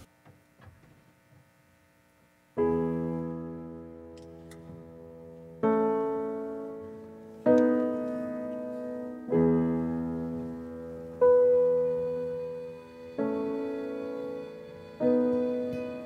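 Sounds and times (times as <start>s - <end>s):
slow piano chords: 2.6s - 16.0s.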